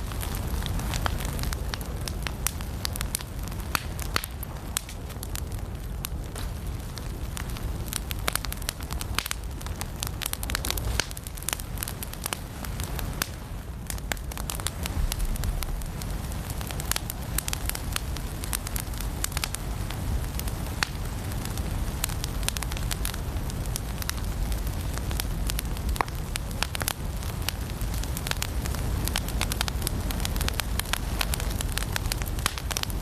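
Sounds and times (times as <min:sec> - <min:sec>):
firewood crackling and popping: 0:00.0 - 0:33.0
low steady rumble: 0:00.0 - 0:33.0.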